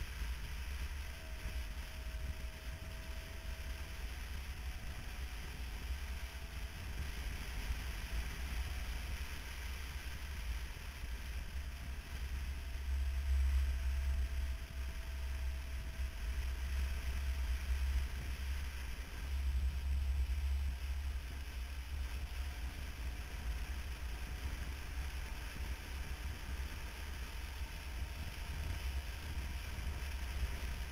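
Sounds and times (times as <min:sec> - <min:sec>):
motorcycle engine running: 0:00.0 - 0:30.9
wind rumbling on microphone: 0:00.0 - 0:30.9.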